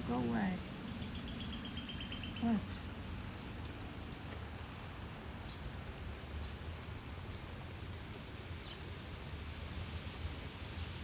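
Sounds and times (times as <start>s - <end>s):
faint drip ticks: 0.0s - 9.6s.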